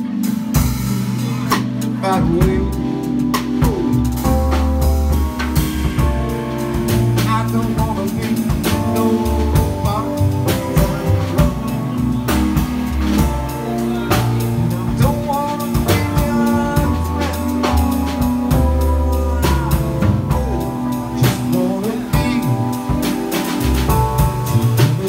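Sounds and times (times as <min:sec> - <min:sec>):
drum kit steady beat: 0:00.0 - 0:25.0
electric keyboard chords: 0:00.0 - 0:25.0
saxophone melody: 0:02.4 - 0:25.0.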